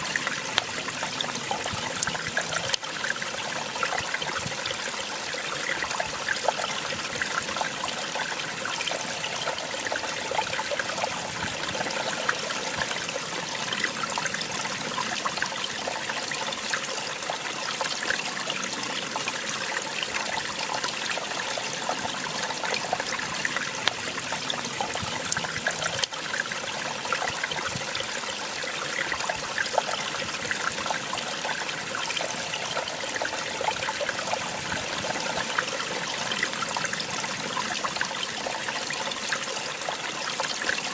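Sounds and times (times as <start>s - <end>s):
small waterfall splashing over rocks: 0.0s - 40.9s.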